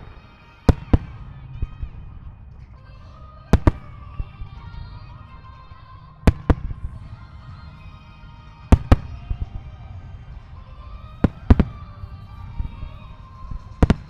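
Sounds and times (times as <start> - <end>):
firework shells bursting: 0.0 - 14.0
low rumble: 0.0 - 14.0
music playing: 0.0 - 14.0.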